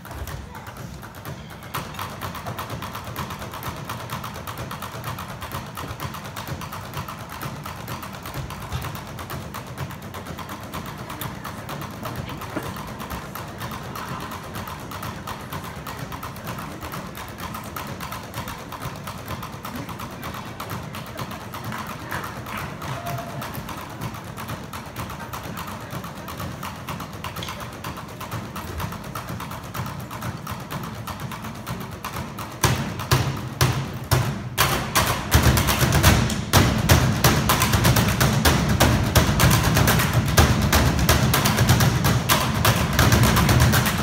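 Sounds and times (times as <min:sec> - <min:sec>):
drumsticks tapping on suitcases: 0:00.0 - 0:44.0.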